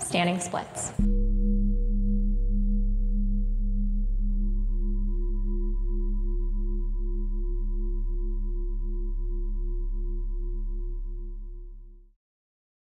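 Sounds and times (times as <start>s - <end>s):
droning singing bowl music: 1.0s - 12.0s.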